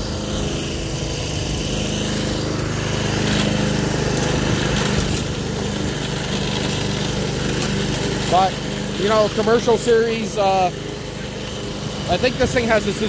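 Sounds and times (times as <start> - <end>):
lawn mower engine running: 0.0 - 13.0
mower blade cutting dry grass: 0.0 - 13.0.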